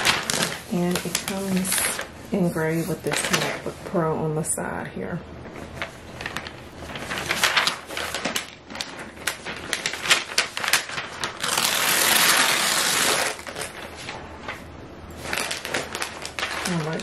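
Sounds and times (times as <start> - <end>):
paper and cardboard crinkling: 0.0 - 4.0, 5.5 - 17.0
paper rustling: 0.0 - 4.0, 5.4 - 17.0.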